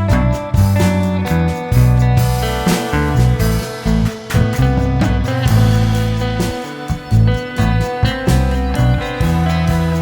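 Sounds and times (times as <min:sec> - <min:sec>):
guitar music with beat: 0:00.0 - 0:10.0.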